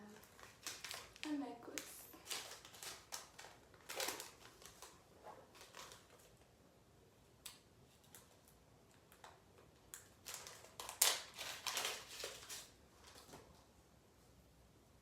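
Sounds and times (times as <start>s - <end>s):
plastic packaging crinkling: 0.0s - 6.5s, 8.0s - 13.6s.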